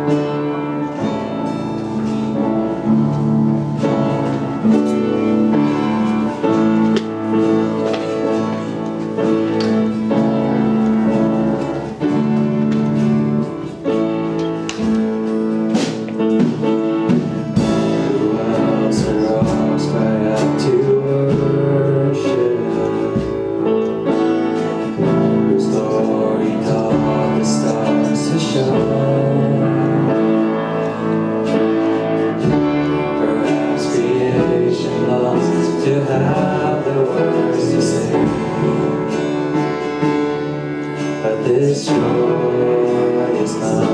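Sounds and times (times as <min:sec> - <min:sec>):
guitar playing: 0:00.0 - 0:43.9
sustained keyboard chords: 0:00.0 - 0:43.9.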